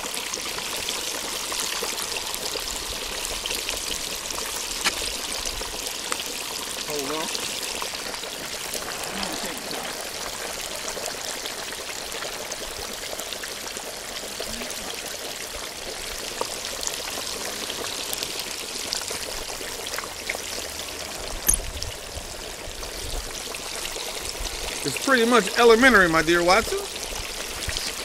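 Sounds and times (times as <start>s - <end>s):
oil sizzling and crackling: 0.0s - 28.0s.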